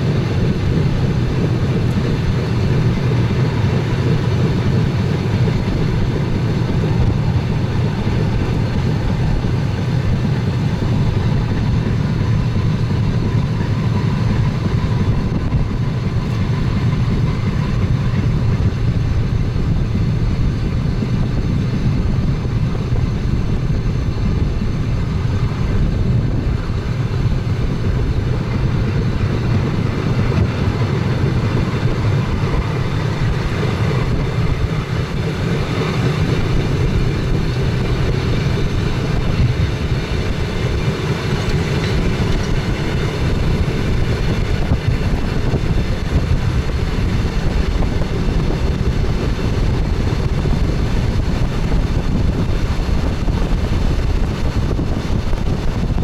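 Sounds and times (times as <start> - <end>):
train wheels rumbling at speed: 0.0 - 56.0.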